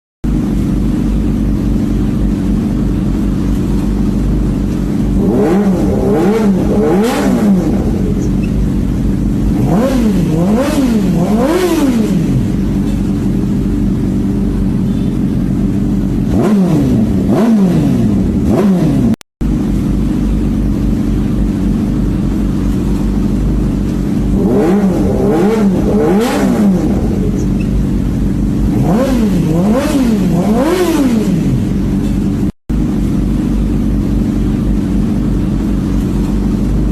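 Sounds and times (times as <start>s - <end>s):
motorcycle engine revving: 0.3s - 36.9s.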